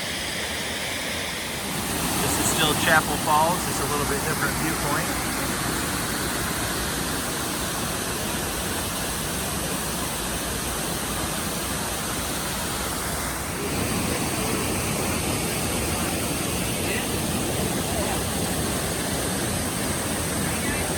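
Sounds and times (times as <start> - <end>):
waterfall roaring: 0.0 - 20.9.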